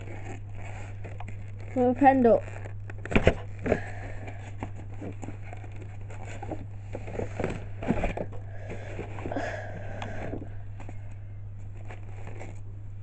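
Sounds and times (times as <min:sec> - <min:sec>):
cardboard and packaging rustling: 0:00.0 - 0:12.6
steady low hum: 0:00.0 - 0:13.0.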